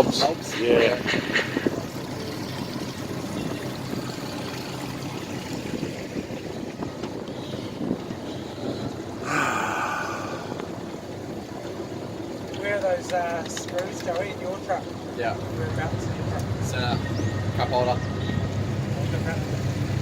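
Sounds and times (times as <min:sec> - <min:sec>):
outboard motors humming: 0:00.0 - 0:20.0
water rushing past hull: 0:00.0 - 0:20.0
wind: 0:00.0 - 0:20.0.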